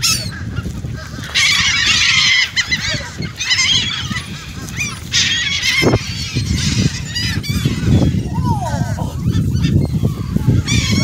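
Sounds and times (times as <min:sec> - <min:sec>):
flock of birds squawking: 0:00.0 - 0:11.0.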